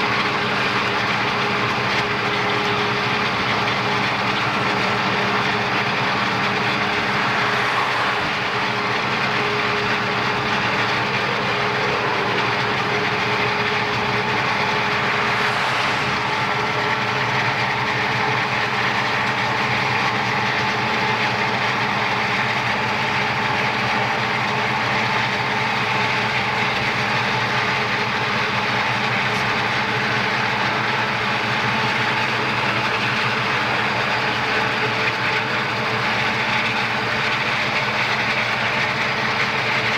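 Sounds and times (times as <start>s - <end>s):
car road and wind noise: 0.0s - 39.9s
locomotive engines: 0.0s - 39.9s
train clattering on rails: 0.0s - 39.9s.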